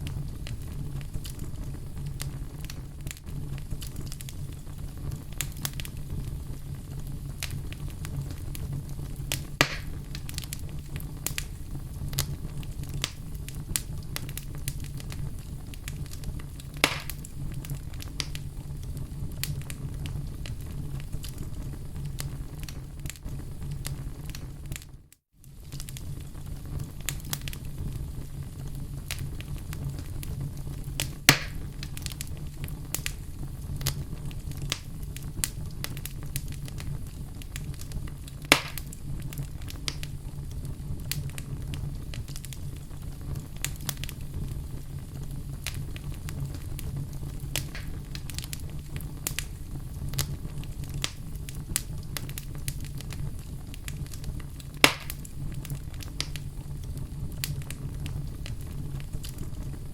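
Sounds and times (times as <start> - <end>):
sharp fire pops: 0.0 - 59.9
wood fire crackling: 0.0 - 59.9.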